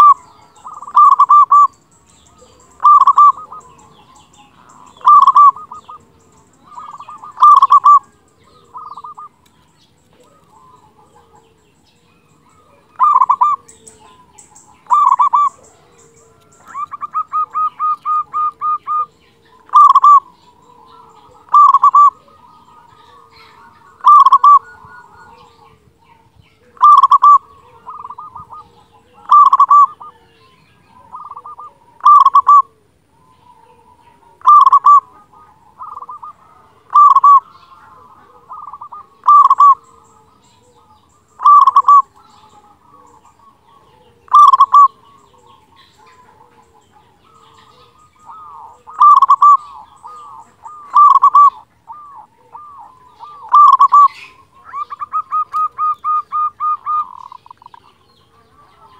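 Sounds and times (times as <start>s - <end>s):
dove cooing: 0.0s - 58.9s
small birds chirping: 0.0s - 58.9s.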